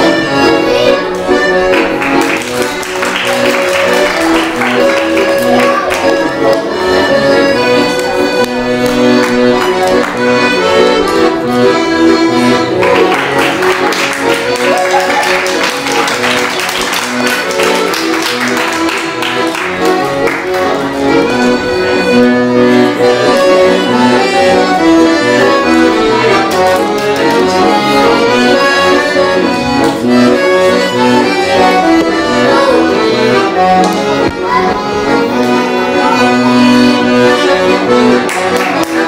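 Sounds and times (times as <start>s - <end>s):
accordion playing lively tune: 0.0s - 39.0s.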